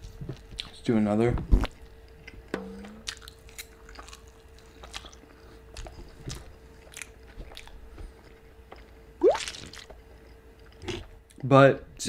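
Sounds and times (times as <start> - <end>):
person chewing food: 1.6 - 11.4.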